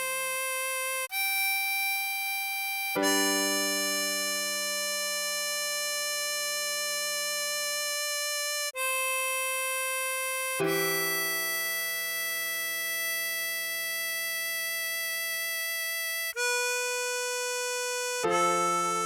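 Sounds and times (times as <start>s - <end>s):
tremolo harmonica melody: 0.0s - 19.0s.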